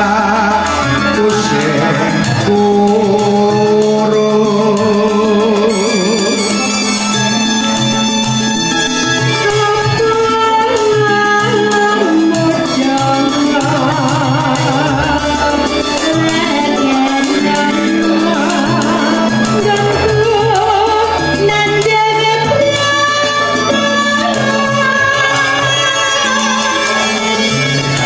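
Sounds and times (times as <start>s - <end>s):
keyboard accompaniment with bass: 0.0s - 28.0s
woman singing with vibrato: 0.0s - 28.0s.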